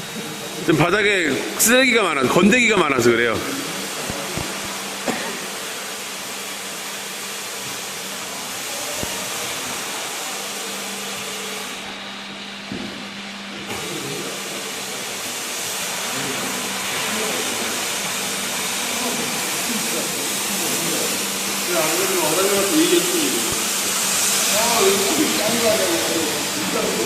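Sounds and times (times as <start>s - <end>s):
floor scrubber suction hiss: 0.0s - 27.0s.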